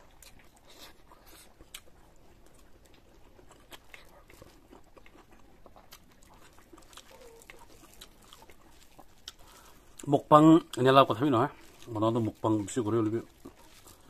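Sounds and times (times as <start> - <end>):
man chewing: 0.0 - 14.0.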